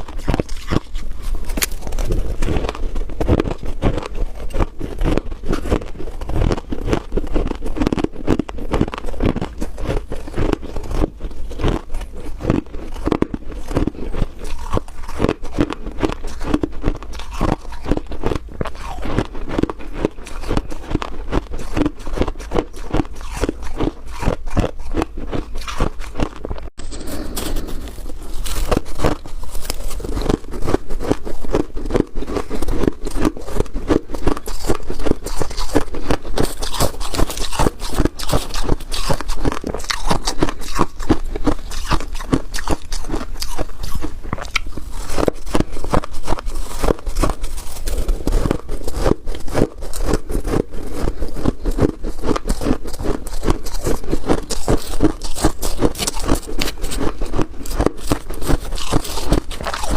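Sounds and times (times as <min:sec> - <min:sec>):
frost being crunched and chewed: 0:00.0 - 0:59.9.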